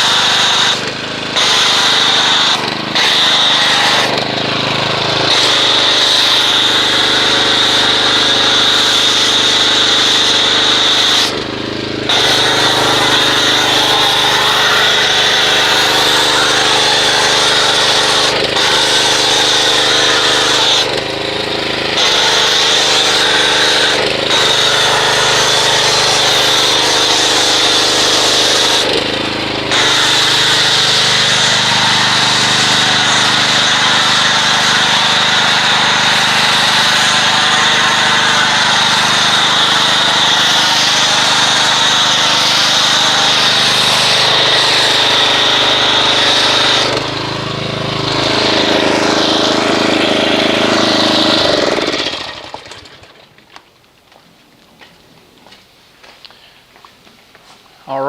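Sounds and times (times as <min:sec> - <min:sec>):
pressure washer spraying: 0:00.0 - 0:53.0.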